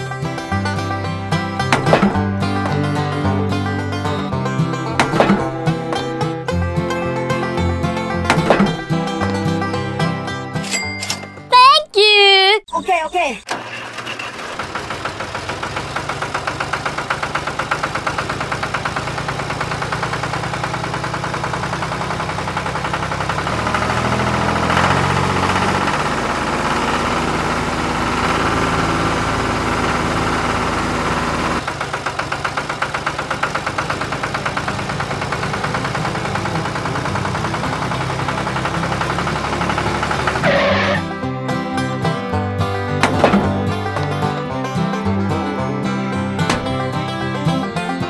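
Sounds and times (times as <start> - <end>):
mini tractor engine chugging: 0.0 - 10.5, 13.5 - 48.0.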